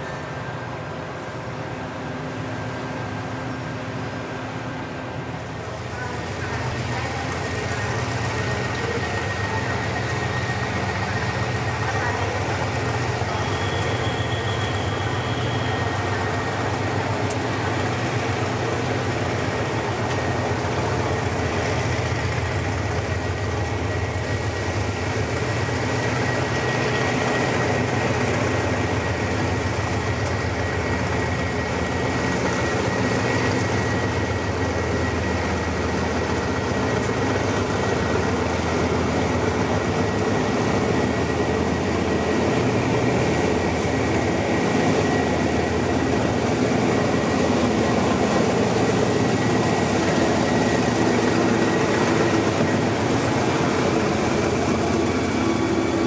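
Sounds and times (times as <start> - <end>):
locomotive engine drone: 0.0 - 56.0.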